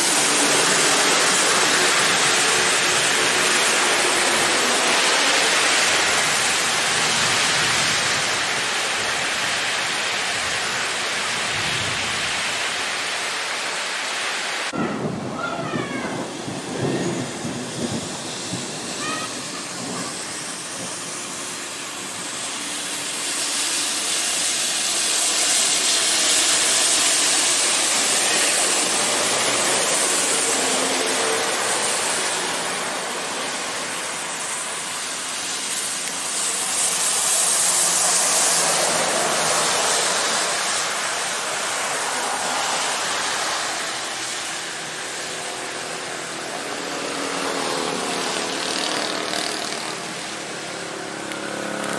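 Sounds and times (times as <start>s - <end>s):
heavy rain hissing: 0.0s - 51.9s
vehicles passing on wet road: 0.0s - 51.9s.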